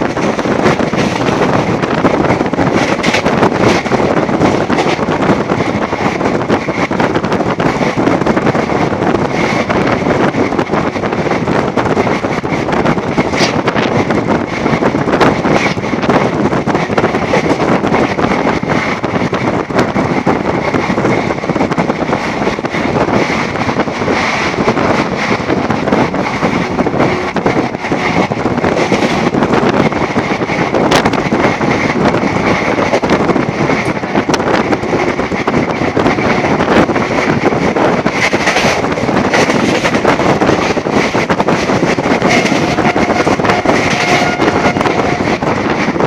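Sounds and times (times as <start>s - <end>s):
train wheels rumbling on rails: 0.0s - 46.0s
wind on microphone: 0.0s - 46.0s.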